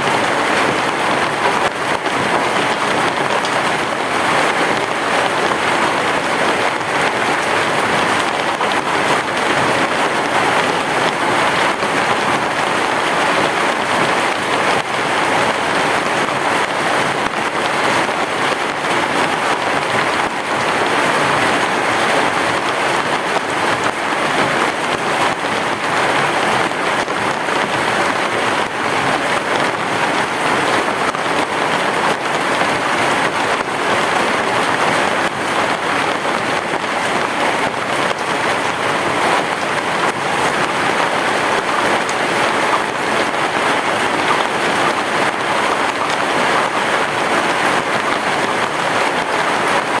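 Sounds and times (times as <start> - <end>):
heavy rain on a roof: 0.0 - 50.0.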